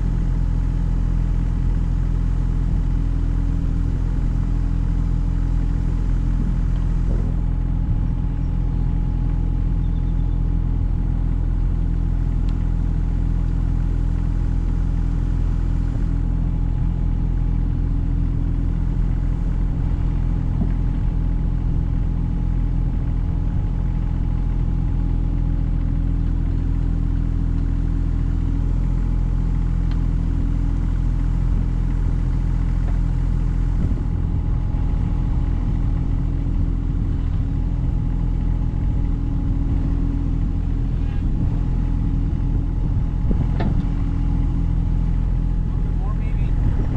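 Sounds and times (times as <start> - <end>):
backhoe engine running: 0.0 - 46.9.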